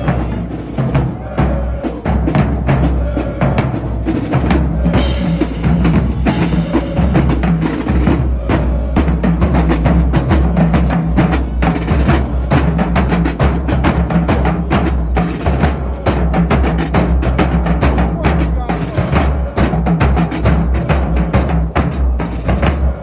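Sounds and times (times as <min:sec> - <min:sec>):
steady bass drum beats: 0:00.0 - 0:23.0.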